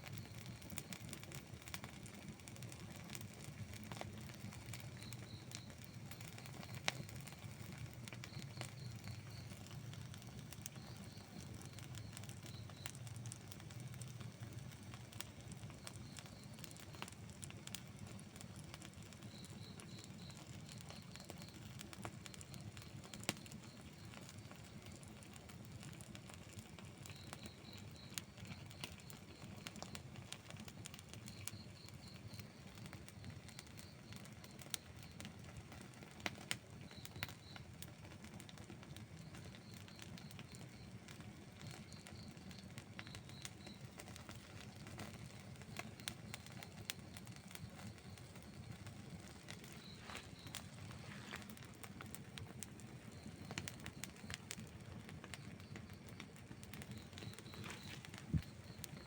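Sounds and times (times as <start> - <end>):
campfire crackling and popping: 0.0 - 59.0
low fire rumble: 0.0 - 59.0
faint high chirps: 3.9 - 17.2, 19.1 - 25.1, 26.9 - 35.2, 39.1 - 59.0.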